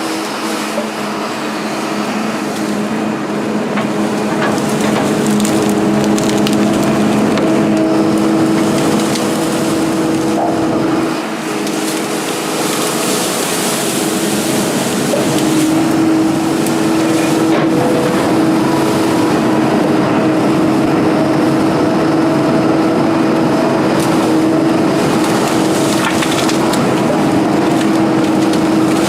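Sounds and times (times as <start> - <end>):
excavator engine and hydraulics: 0.0 - 29.0.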